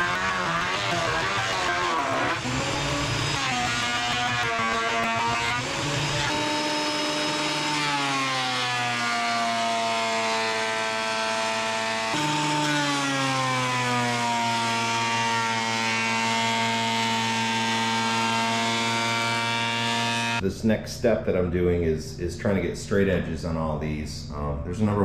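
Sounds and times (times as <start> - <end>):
woodworking machine motor whine: 0.0 - 20.4.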